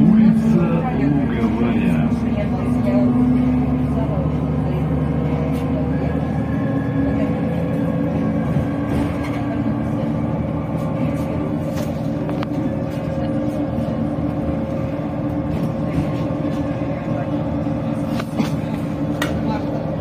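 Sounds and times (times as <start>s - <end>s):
bus diesel engine droning: 0.0s - 20.0s
road noise: 0.0s - 20.0s.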